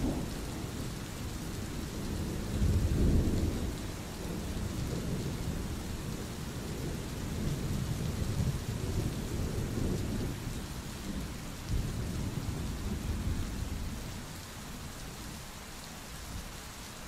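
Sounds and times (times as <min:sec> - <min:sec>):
low rolling thunder: 0:00.0 - 0:14.8
steady rain: 0:00.0 - 0:17.0.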